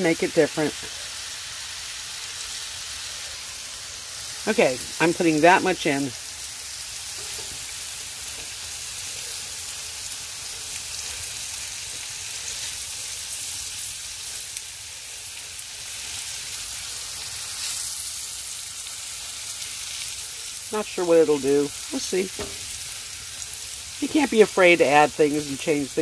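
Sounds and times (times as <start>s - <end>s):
vegetables sizzling in a frying pan: 0.0s - 26.0s.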